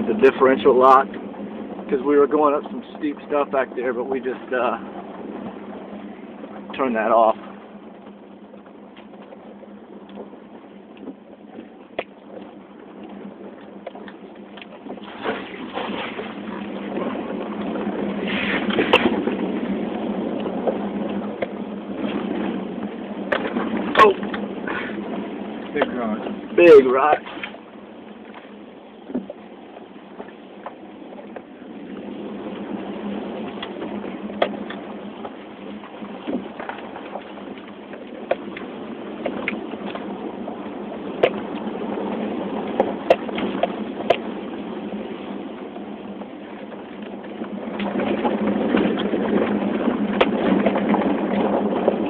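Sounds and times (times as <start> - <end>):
engine and tyre rumble: 0.0 - 52.0
knocks and rattles over rocks: 0.0 - 52.0.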